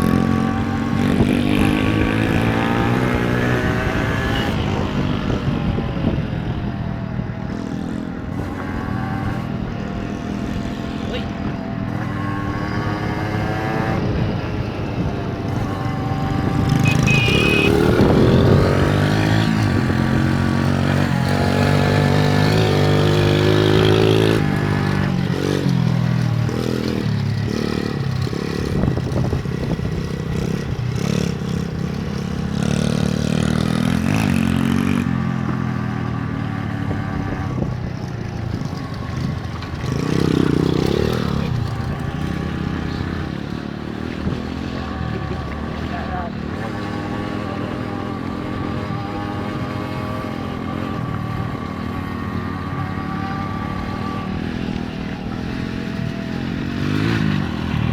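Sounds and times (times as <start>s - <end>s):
small motorcycle engine revving: 0.0s - 57.9s.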